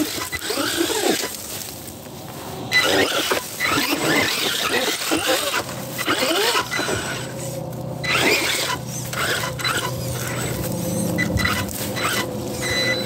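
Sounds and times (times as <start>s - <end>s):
electric motor whining: 0.0s - 1.4s, 2.7s - 13.0s
tires knocking and scraping on rock: 0.0s - 13.0s.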